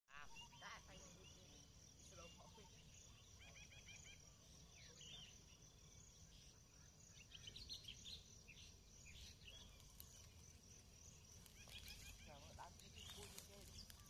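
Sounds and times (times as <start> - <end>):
high insect drone: 0.4 - 14.0.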